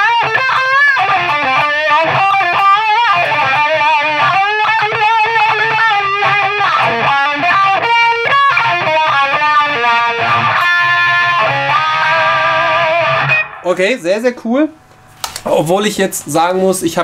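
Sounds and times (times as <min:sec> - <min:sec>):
electric guitar with wah pedal: 0:00.0 - 0:13.7.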